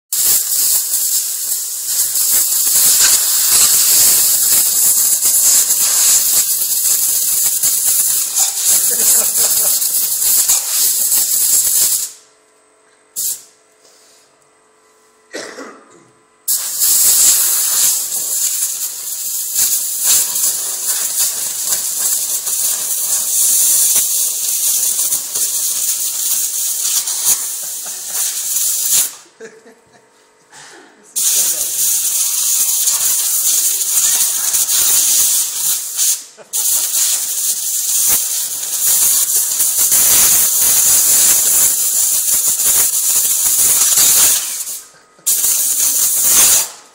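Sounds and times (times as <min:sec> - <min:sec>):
air blow gun hissing: 0:00.1 - 0:12.2, 0:13.2 - 0:13.5, 0:16.5 - 0:29.2, 0:31.2 - 0:46.8.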